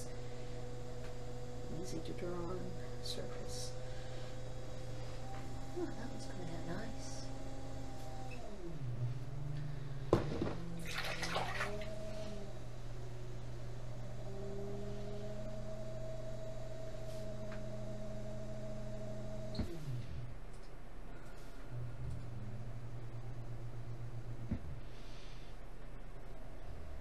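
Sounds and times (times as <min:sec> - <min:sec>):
potter's wheel motor humming: 0:00.0 - 0:20.4, 0:21.2 - 0:27.0.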